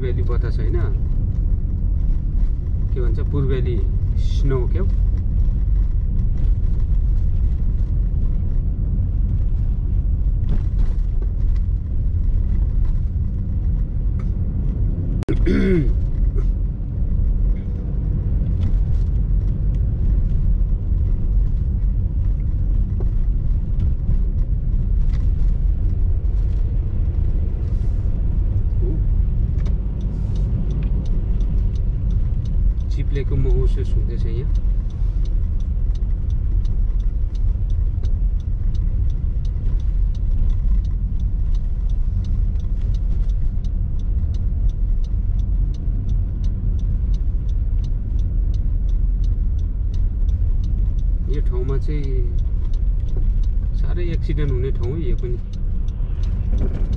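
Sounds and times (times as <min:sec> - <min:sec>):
car engine and road noise: 0:00.0 - 0:56.9.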